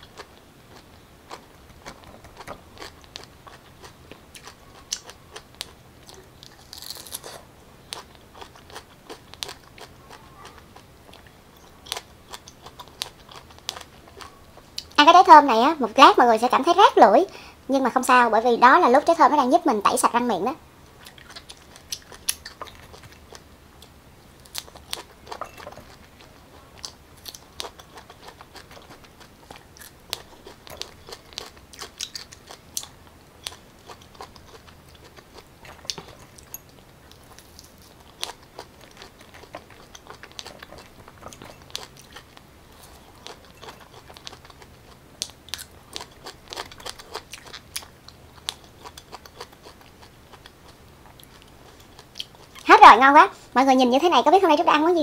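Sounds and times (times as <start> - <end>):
chewing pineapple: 0.0 - 15.0, 20.9 - 52.7.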